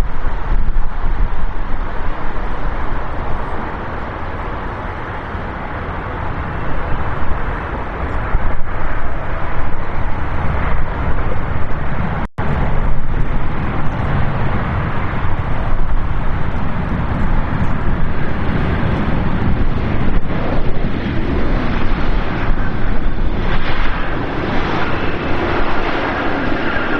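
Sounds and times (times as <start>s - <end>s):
jet engines rumbling: 0.0s - 26.9s
wind buffeting microphone: 0.0s - 26.9s.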